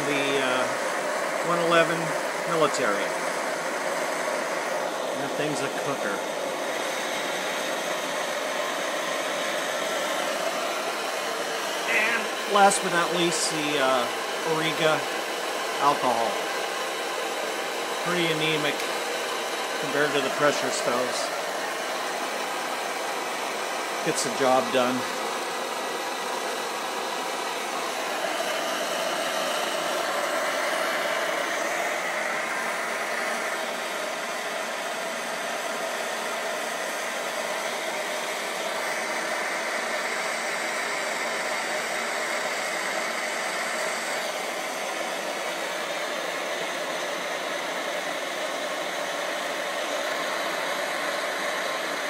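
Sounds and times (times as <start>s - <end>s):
pressure stove burners roaring: 0.0s - 52.0s.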